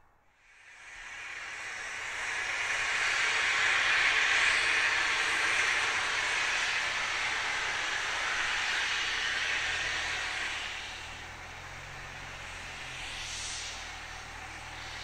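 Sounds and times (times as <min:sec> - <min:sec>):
steam locomotive hissing: 0:00.4 - 0:15.0.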